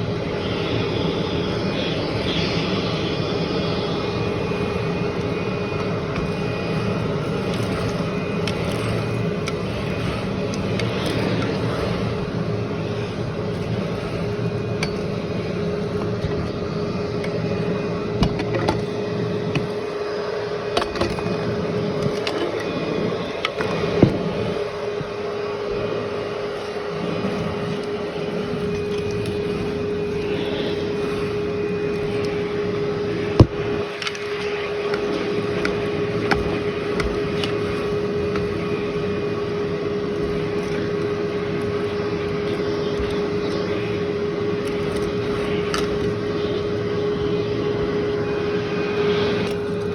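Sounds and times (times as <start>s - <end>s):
grit crackling in vacuum: 0.0s - 49.9s
vacuum cleaner on carpet: 0.0s - 49.9s.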